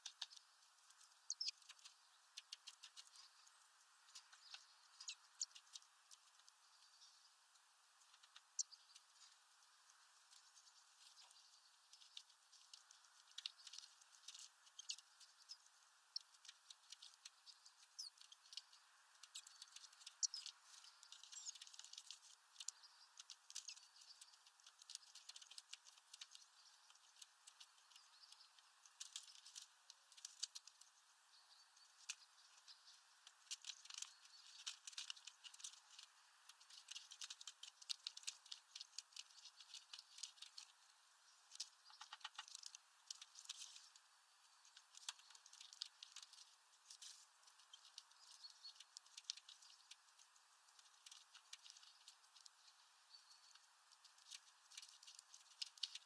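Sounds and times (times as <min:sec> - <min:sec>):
birds pecking at mesh feeder: 0:00.0 - 0:56.0.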